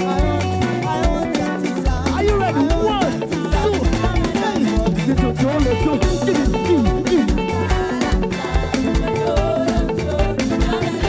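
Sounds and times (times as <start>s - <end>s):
band playing dance groove: 0.0s - 11.0s
electric guitar lines: 0.0s - 11.0s.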